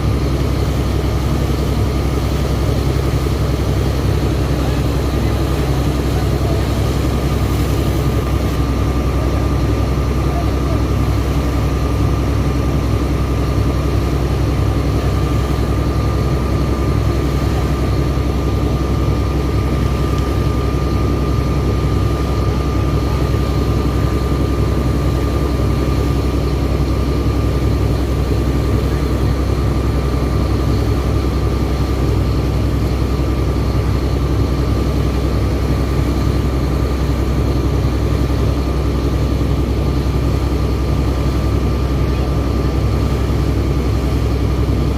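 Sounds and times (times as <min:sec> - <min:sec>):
air compressor engine drone: 0:00.0 - 0:44.9
steady thin whine: 0:00.0 - 0:44.9.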